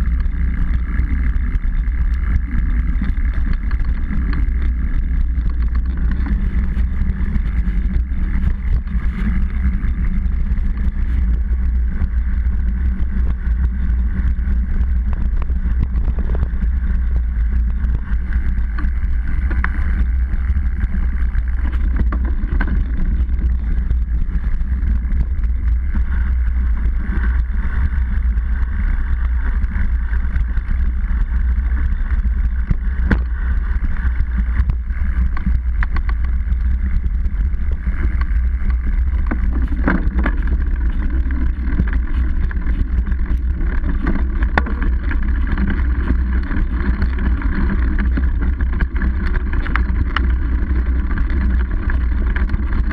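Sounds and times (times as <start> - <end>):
clicks and knocks from bumps: 0.0 - 26.1, 29.8 - 52.9
mountain bike rumble and rattle: 0.0 - 52.9.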